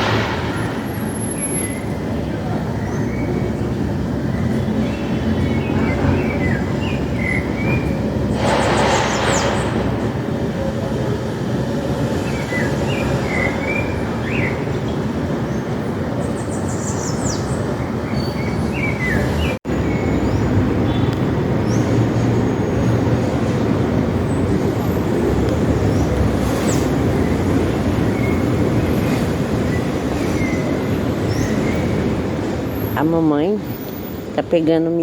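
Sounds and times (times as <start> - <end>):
low rumble of city traffic: 0.0 - 35.0.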